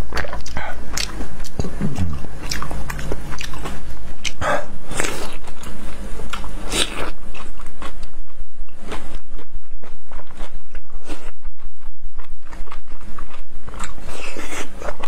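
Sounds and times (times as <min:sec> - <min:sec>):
person chewing wetly: 0:00.0 - 0:15.0.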